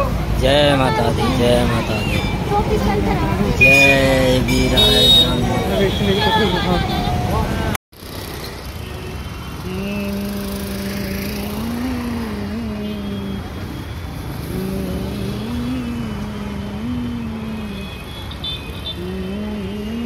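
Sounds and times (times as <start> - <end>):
busy road traffic: 0.0 - 20.0.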